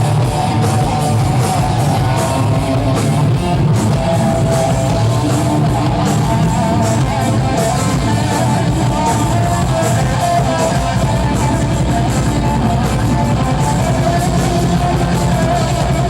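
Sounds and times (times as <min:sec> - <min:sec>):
drums: 0:00.0 - 0:16.0
electric guitar: 0:00.0 - 0:16.0
live rock band playing: 0:00.0 - 0:16.0.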